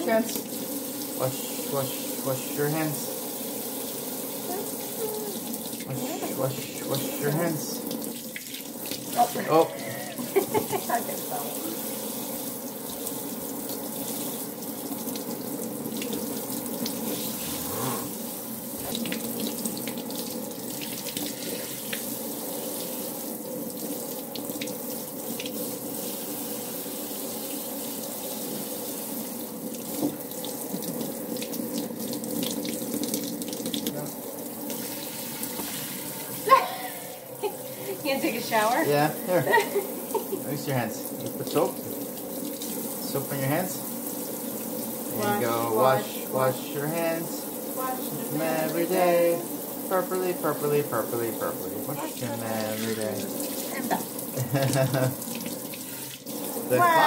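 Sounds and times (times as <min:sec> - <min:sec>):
water running from faucet sprayer: 0:00.0 - 0:57.0
water splashing into sink: 0:00.0 - 0:57.0.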